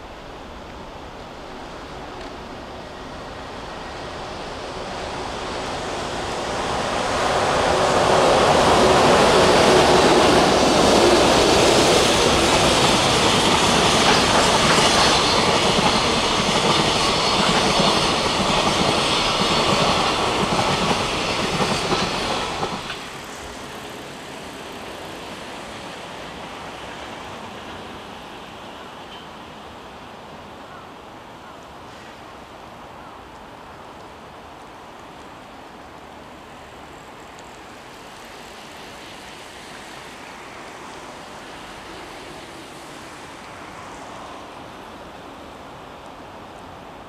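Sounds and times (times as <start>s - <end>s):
freight train passing: 0.0s - 47.0s.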